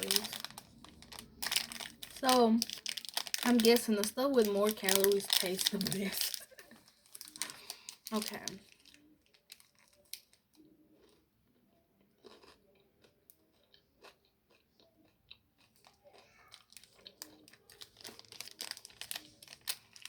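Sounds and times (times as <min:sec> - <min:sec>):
person chewing with crunches: 0:00.0 - 0:03.9, 0:04.6 - 0:11.2, 0:12.2 - 0:20.0.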